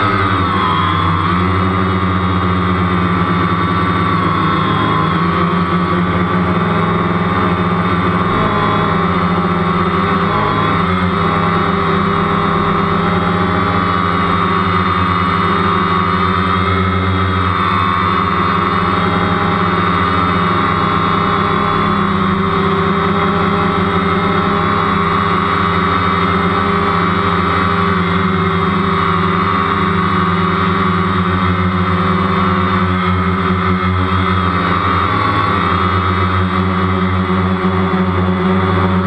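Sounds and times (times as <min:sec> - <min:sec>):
drone propellers buzzing: 0:00.0 - 0:39.0.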